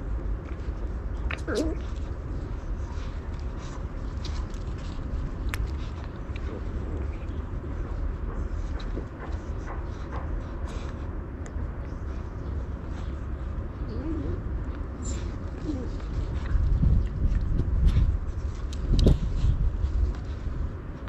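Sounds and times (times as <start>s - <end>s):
puppies play-fighting: 0.0s - 21.0s.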